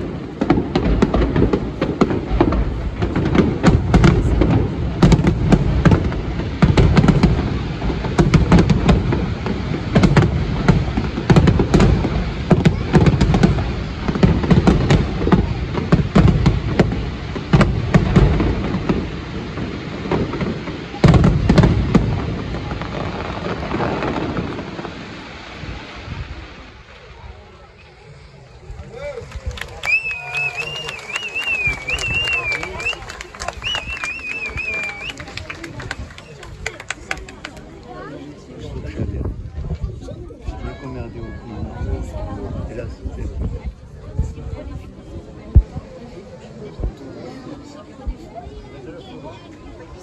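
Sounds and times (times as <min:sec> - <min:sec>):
fireworks bangs: 0:00.0 - 0:40.6.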